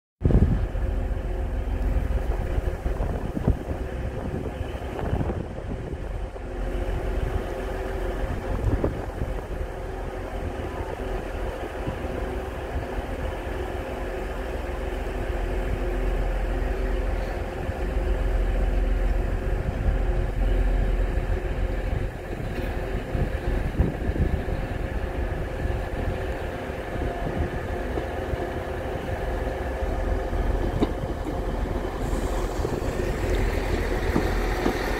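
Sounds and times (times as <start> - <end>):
diesel train approaching: 0.2 - 34.9
diesel train engine idling: 0.2 - 34.9.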